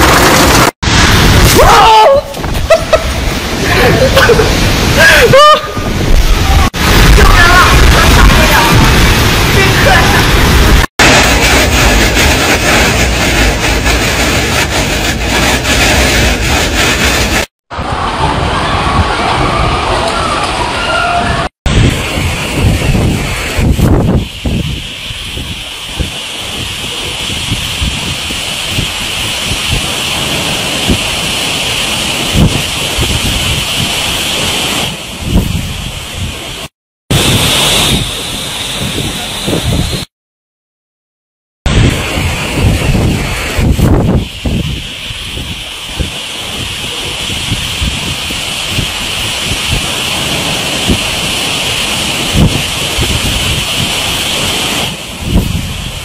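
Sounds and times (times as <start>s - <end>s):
heavy rain hissing: 0.0s - 40.1s, 41.7s - 56.0s
wind buffeting microphone: 2.2s - 20.7s, 21.6s - 40.1s, 41.7s - 56.0s.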